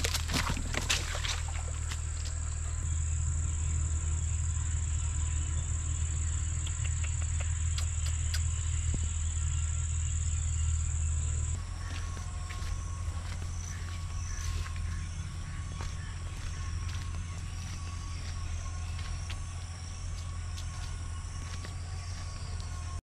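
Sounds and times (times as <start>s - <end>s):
insects calling: 0.0s - 23.0s
low steady rumble: 0.0s - 23.0s.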